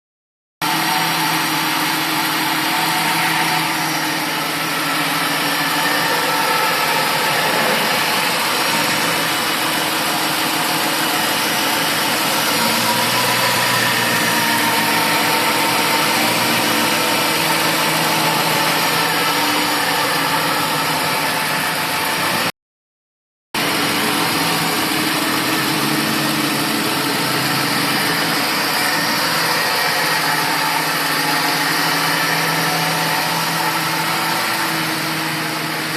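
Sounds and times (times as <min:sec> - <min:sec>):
engine running steadily: 0:00.6 - 0:22.5, 0:23.6 - 0:35.9.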